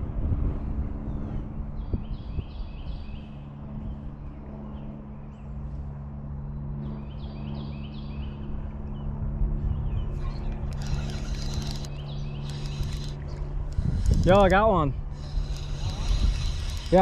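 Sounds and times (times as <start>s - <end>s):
wind rumbling on microphone: 0.0s - 6.2s, 6.9s - 17.0s
steady low hum: 0.0s - 17.0s.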